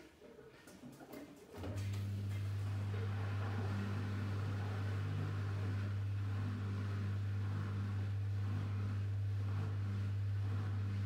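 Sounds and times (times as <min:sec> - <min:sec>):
washing machine running: 0:00.5 - 0:11.0.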